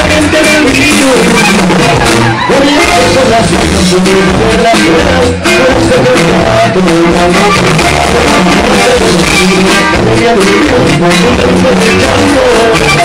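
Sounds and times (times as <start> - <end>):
live band music: 0.0 - 13.0
steady drum beat: 0.0 - 13.0
tuba: 0.0 - 13.0.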